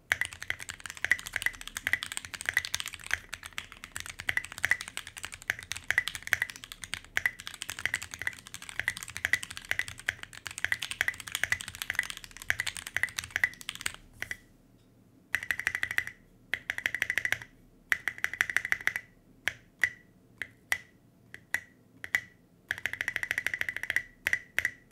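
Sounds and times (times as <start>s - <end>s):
mechanical keyboard typing: 0.1s - 14.4s, 15.4s - 19.0s, 21.4s - 24.9s.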